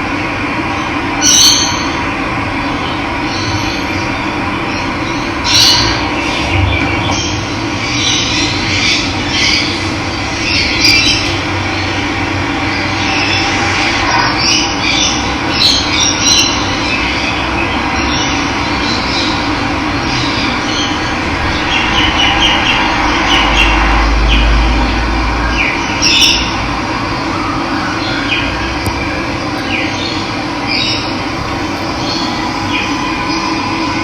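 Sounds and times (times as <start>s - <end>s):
birds chirping: 2.8s - 26.6s, 27.8s - 34.0s.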